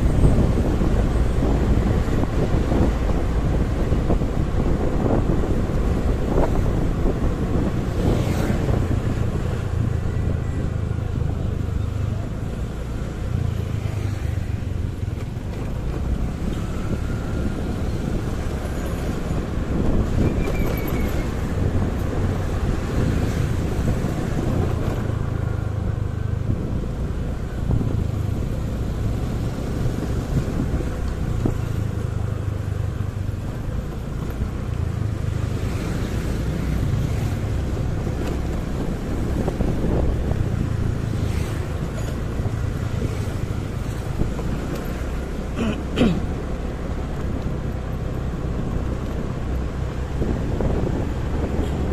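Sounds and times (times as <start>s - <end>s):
wind on microphone: 0.0s - 12.7s, 14.4s - 45.4s, 47.0s - 51.9s
motorcycle engine rumble: 0.0s - 51.9s
vehicles passing: 0.0s - 51.9s.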